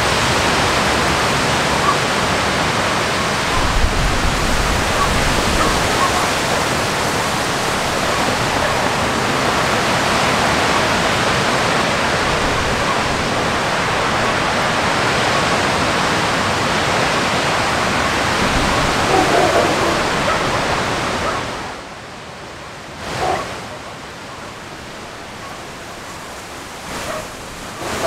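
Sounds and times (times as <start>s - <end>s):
loud steady rushing noise: 0.0s - 28.0s.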